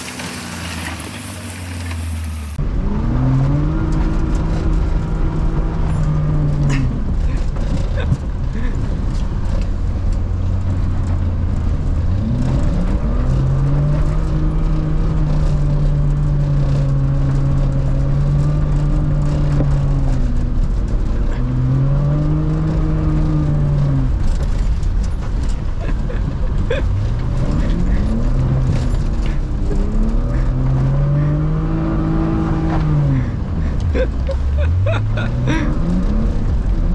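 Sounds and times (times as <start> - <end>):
car engine revving hard: 2.6 - 36.9.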